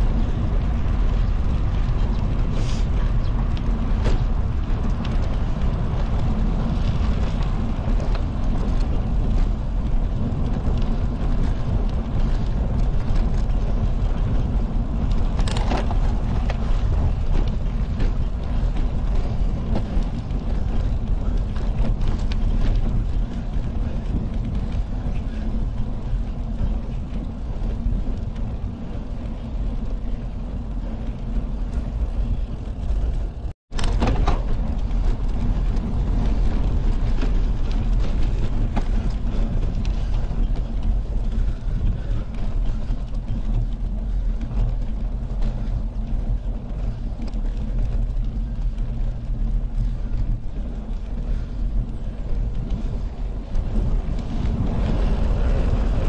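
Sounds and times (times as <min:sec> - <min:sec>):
bicycle tyres on concrete: 0:00.0 - 0:56.0
wind rumble: 0:00.0 - 0:56.0.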